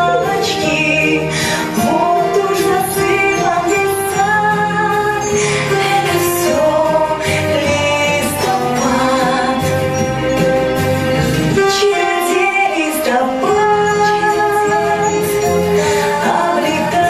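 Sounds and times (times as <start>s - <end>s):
musical backing track: 0.0s - 17.0s
people singing: 0.2s - 10.2s, 11.6s - 17.0s.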